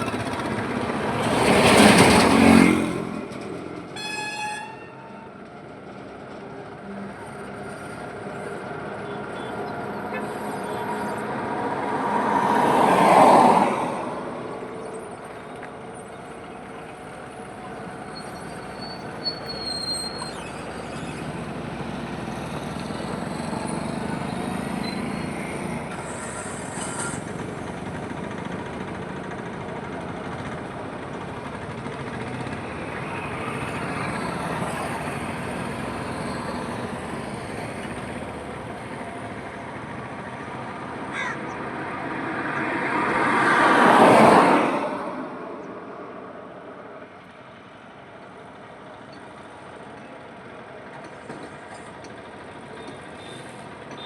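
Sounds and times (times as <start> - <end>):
highway traffic passing: 0.0 - 54.0
steady traffic hum: 0.0 - 54.0.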